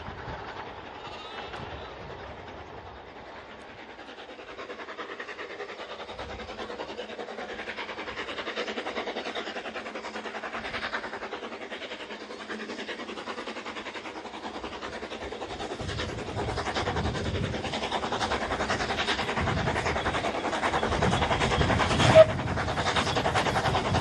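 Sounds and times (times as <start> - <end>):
steam locomotive chuffing: 0.0 - 24.0.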